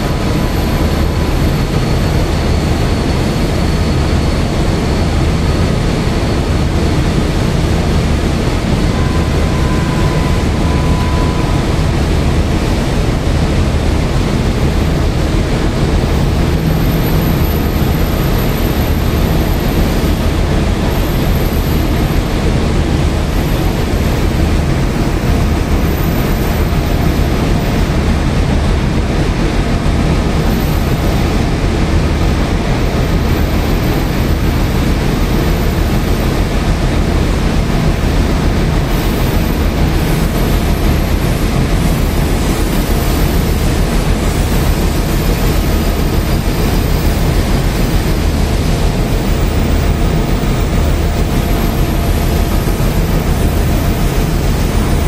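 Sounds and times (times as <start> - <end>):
train coaches rumbling on rails: 0.0 - 55.0.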